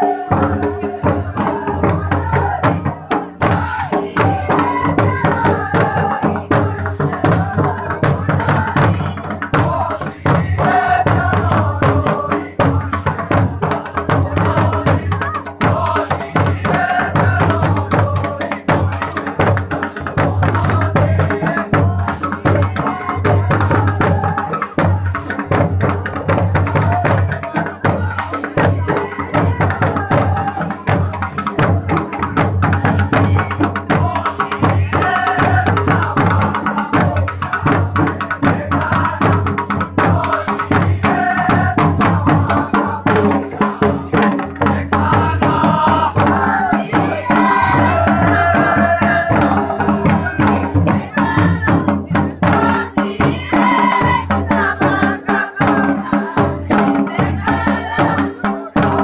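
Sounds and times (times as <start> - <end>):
group singing folk song: 0.0 - 59.0
rapid drumming: 0.0 - 59.0.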